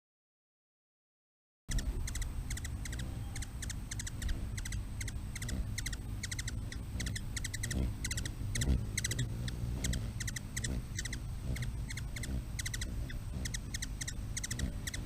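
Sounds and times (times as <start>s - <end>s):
clicking animal calls: 1.7s - 15.0s.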